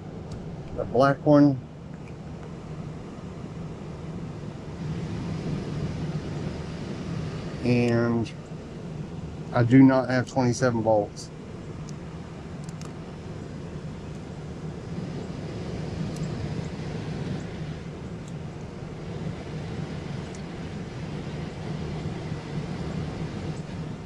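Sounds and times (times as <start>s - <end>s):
blower drone: 0.0s - 24.0s.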